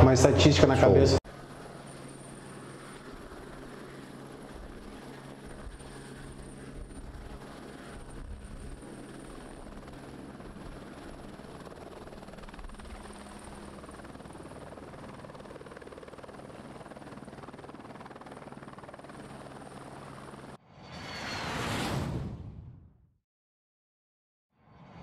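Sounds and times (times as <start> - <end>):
helicopter rotor noise: 0.0 - 21.3.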